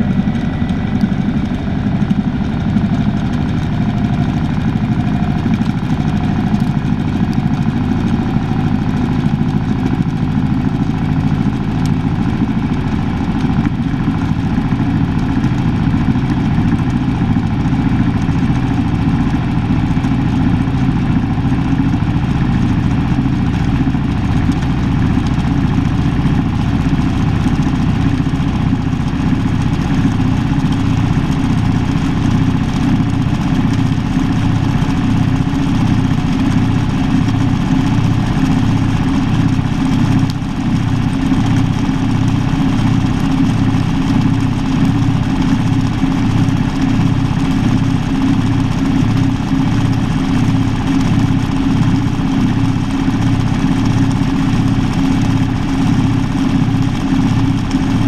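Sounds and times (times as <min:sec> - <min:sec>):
washing machine spinning: 0:10.0 - 0:58.0.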